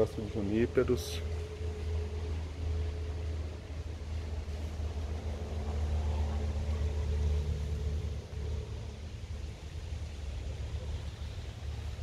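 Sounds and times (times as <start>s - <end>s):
faint steady hum: 0.0s - 12.0s
low rumble and hiss: 0.0s - 12.0s.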